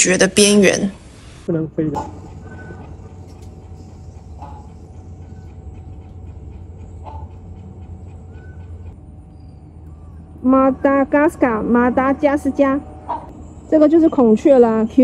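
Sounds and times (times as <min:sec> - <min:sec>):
faint bird calls: 0:02.0 - 0:14.4.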